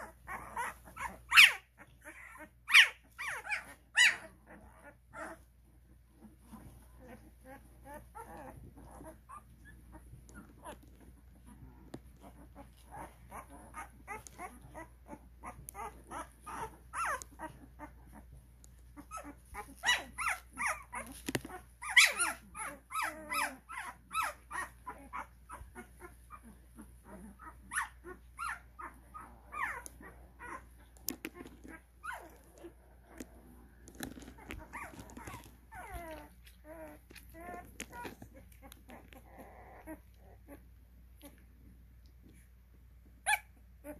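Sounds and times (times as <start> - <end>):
puppies crying: 0.0 - 41.4, 43.2 - 43.9.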